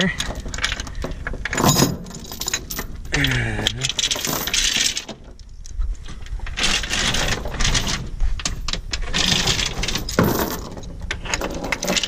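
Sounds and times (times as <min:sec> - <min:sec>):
steel chain rattling: 0:00.0 - 0:05.2, 0:06.5 - 0:12.0.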